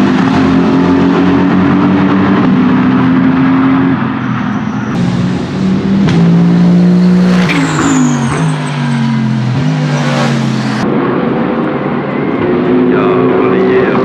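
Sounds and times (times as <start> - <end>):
race car engine passing at speed: 0.0 - 14.0.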